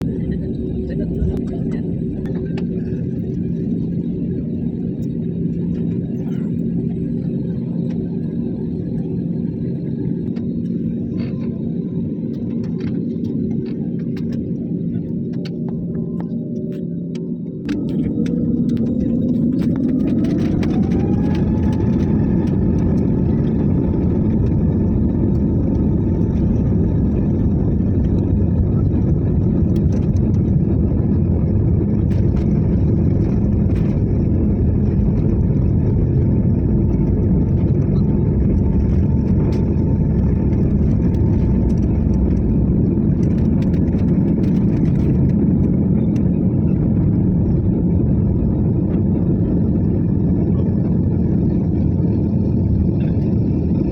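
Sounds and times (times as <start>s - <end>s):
jet engines roaring and whining: 0.0s - 53.9s.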